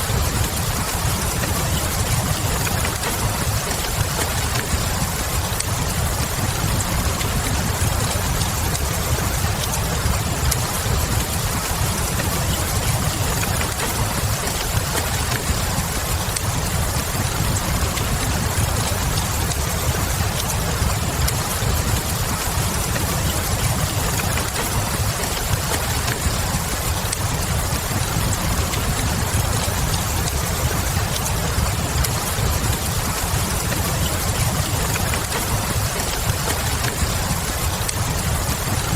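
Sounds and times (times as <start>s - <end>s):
fireplace fire crackling: 0.0s - 38.9s
steady rain: 0.0s - 38.9s.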